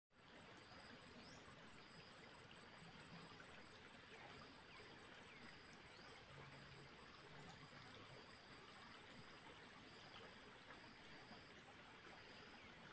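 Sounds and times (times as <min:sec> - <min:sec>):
stream trickling: 0:00.1 - 0:12.9.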